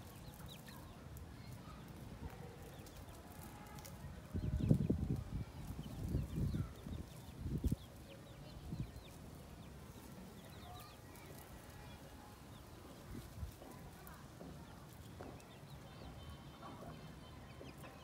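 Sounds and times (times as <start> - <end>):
palm leaves rustling: 0.0 - 15.8.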